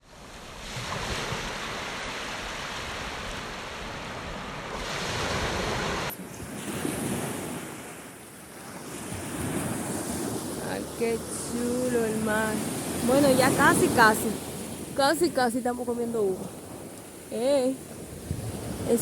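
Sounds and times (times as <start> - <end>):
sea waves washing on shore: 0.0 - 19.0
wind on microphone: 0.3 - 19.0.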